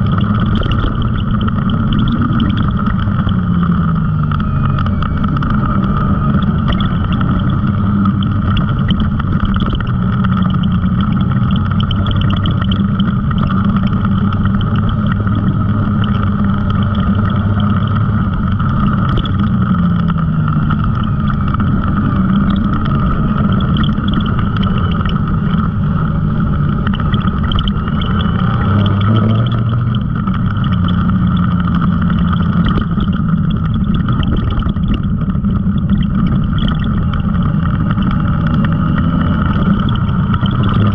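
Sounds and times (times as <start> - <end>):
utility vehicle engine running: 0.0 - 40.9.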